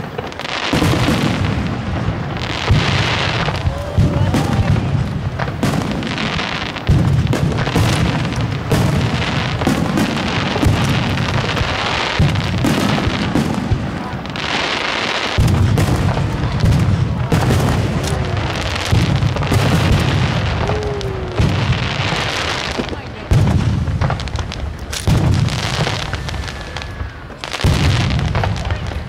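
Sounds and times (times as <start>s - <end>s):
fireworks booming: 0.0s - 29.0s
fireworks crackling: 0.0s - 29.0s.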